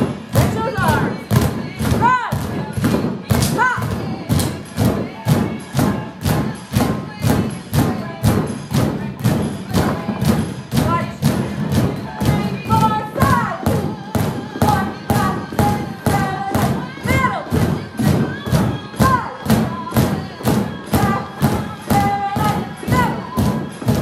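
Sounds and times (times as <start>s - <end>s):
drumsticks beating exercise balls: 0.0s - 24.0s
upbeat music with singer: 0.0s - 24.0s.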